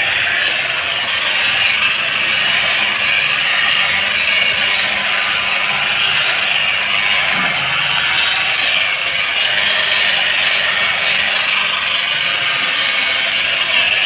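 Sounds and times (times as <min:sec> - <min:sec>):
electric polisher running on glass: 0:00.0 - 0:14.0.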